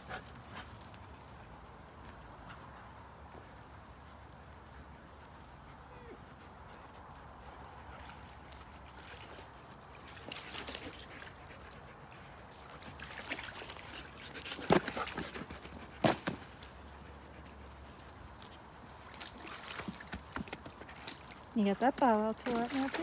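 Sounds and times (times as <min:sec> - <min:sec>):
faint steady background noise: 0:00.0 - 0:23.0.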